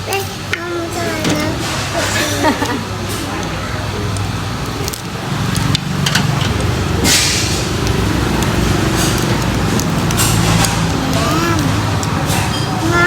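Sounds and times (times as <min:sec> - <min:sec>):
vehicle engine running: 0:00.8 - 0:13.0.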